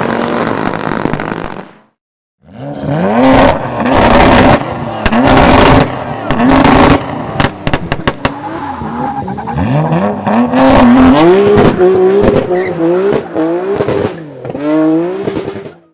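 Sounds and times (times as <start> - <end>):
car engine revving: 2.4 - 15.9.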